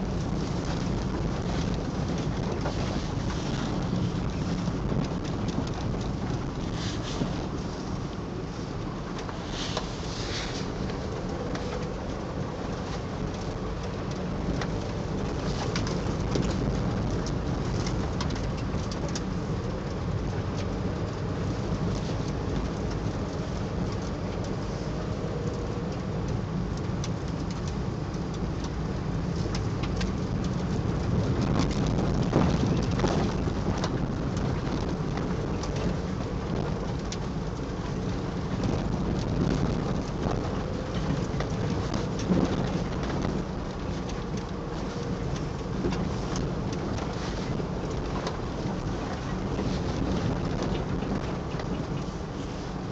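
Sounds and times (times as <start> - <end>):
car road and engine rumble: 0.0 - 52.9
rain suit fabric crackling: 0.0 - 52.9.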